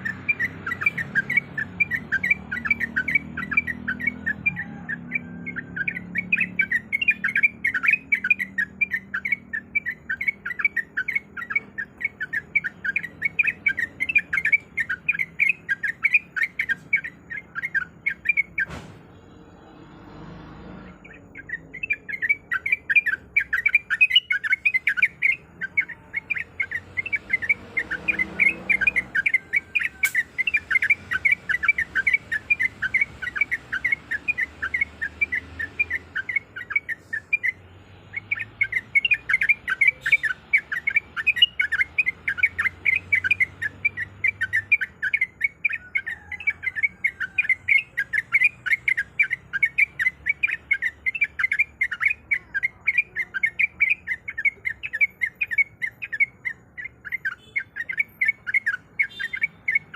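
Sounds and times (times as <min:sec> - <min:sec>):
bird singing chattering notes: 0:00.0 - 0:18.7, 0:20.8 - 0:59.9.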